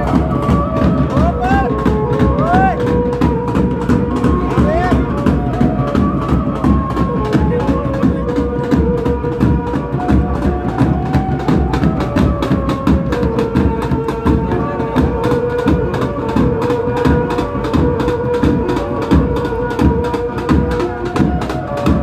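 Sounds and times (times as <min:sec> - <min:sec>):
drums beating fast rhythm: 0:00.0 - 0:22.0
held melody line: 0:00.0 - 0:22.0.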